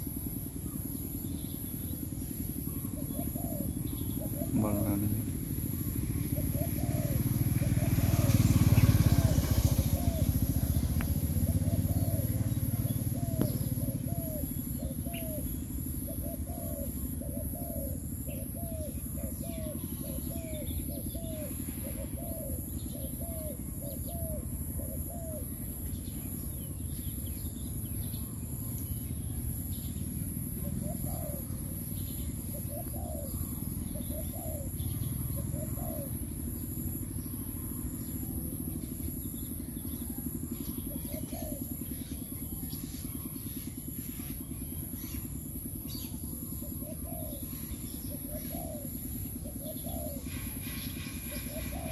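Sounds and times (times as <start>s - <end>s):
steady low rumble: 0.0s - 51.6s
dove cooing: 2.3s - 26.8s, 29.5s - 51.9s.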